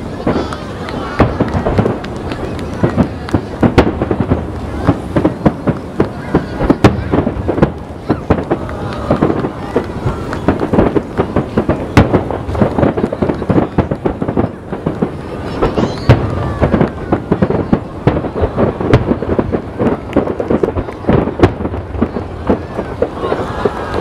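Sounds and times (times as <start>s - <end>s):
fireworks shells bursting: 0.0s - 24.0s.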